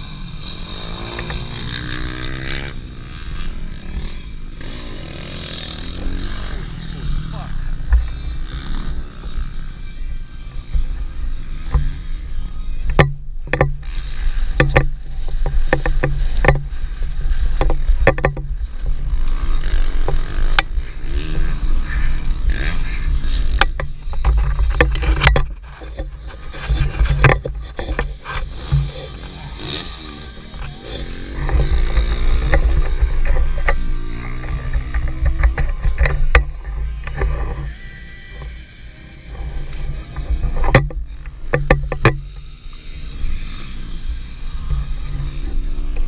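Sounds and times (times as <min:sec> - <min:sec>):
faint motorcycle engines: 0:00.0 - 0:46.0.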